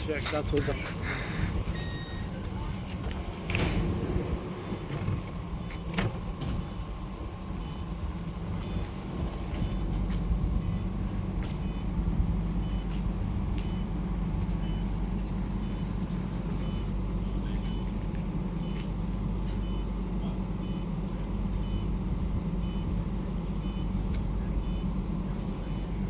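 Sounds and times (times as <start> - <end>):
tram interior rumble and hum: 0.0 - 26.0.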